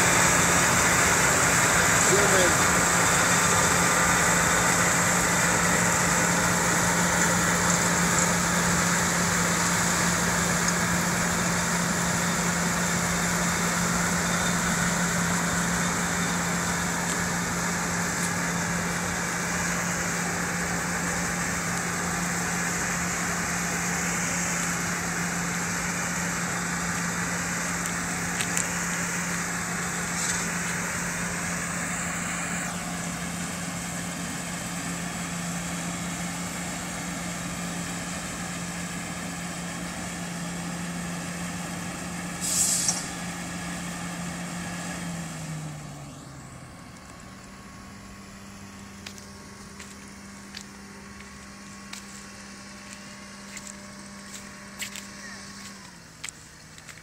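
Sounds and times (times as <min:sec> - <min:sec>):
harvester machinery rattling: 0:00.0 - 0:40.0, 0:48.3 - 0:57.0
tractor engine hum: 0:00.0 - 0:57.0.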